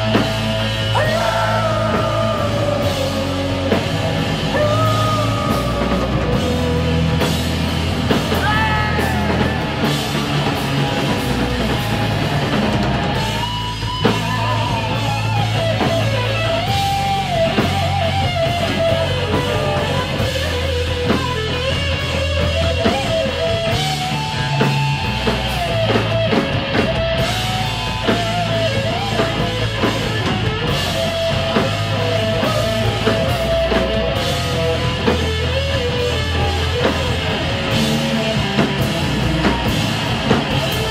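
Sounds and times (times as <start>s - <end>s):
bass guitar: 0.0s - 40.9s
electric guitar lead: 0.0s - 40.9s
pounding drums and cymbals: 0.0s - 40.9s.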